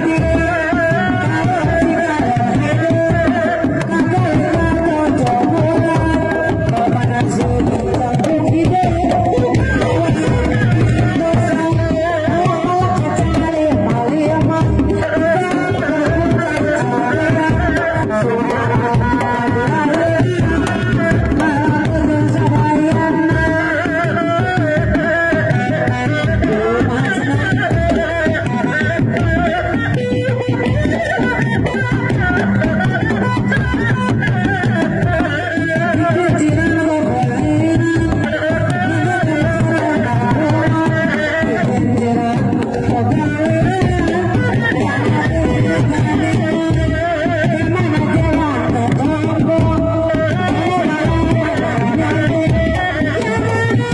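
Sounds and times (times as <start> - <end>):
hand drums interlocking beat: 0.0 - 53.9
held melody line: 0.0 - 53.9.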